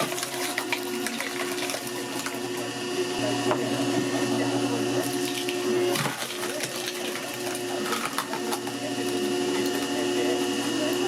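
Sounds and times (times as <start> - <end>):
small motor humming: 0.5 - 11.0.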